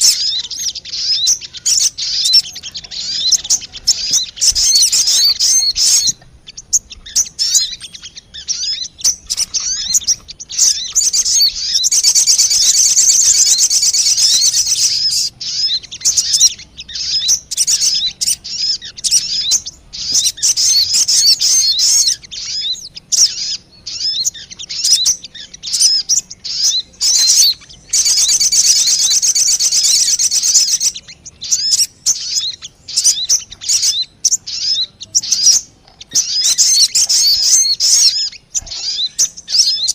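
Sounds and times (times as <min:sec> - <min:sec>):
dense bird trills: 0:00.0 - 0:39.9
high sharp bird chirps: 0:00.0 - 0:39.9.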